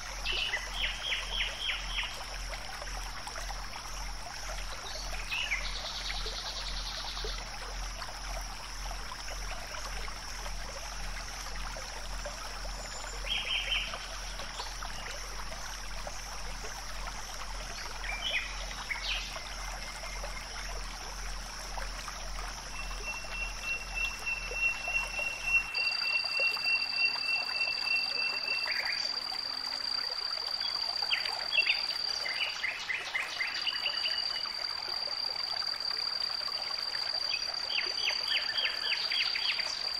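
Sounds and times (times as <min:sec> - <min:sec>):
running water hiss: 0:00.0 - 0:39.9.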